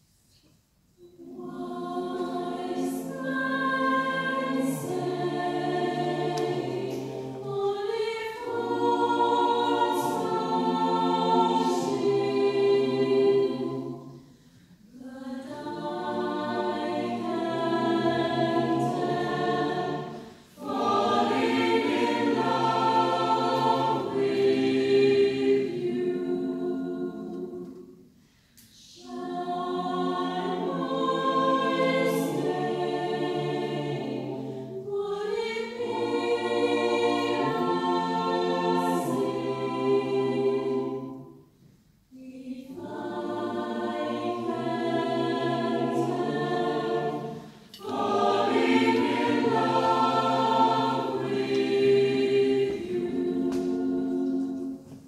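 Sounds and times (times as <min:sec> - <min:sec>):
mixed choir singing unaccompanied: 0:01.0 - 0:28.1, 0:28.7 - 0:55.0.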